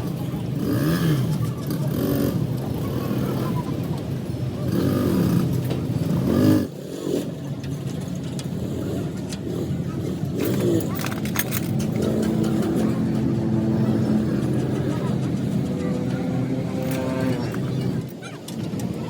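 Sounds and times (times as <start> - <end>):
faint voices: 0.0 - 19.0
vehicle engine running: 0.0 - 19.0.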